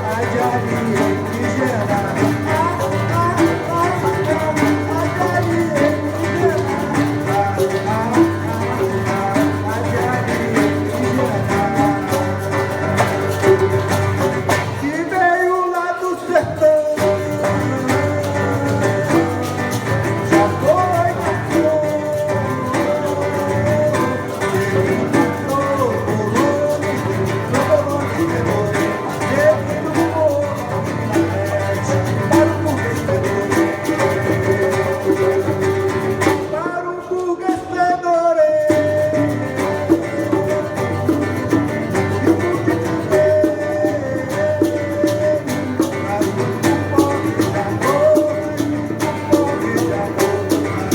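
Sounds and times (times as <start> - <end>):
acoustic guitar playing: 0.0 - 50.9
bongos: 0.0 - 50.9.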